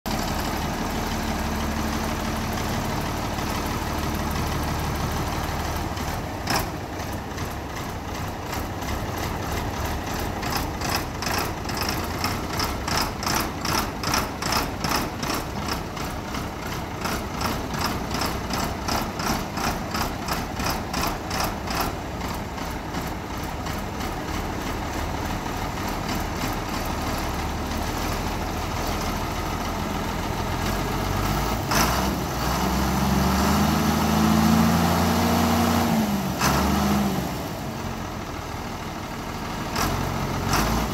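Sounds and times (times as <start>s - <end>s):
tractor diesel engine idling: 0.1s - 40.9s.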